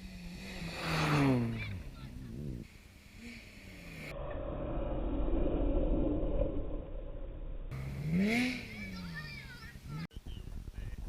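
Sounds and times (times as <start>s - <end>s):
rally car approaching: 0.0s - 10.1s
rally car engine passing by: 0.0s - 10.1s.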